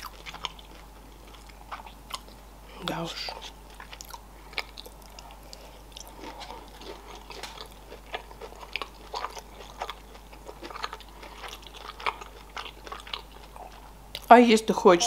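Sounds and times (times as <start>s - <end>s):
person chewing food: 0.0s - 14.3s.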